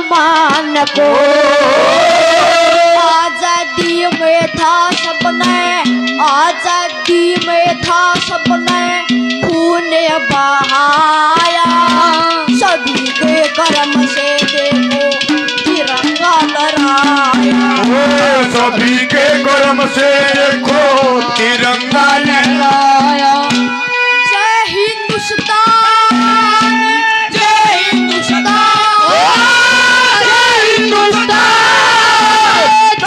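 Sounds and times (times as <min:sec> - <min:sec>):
boy singing: 0:00.0 - 0:33.0
hand drum rhythm: 0:00.0 - 0:33.0
harmonium drone: 0:00.0 - 0:33.0.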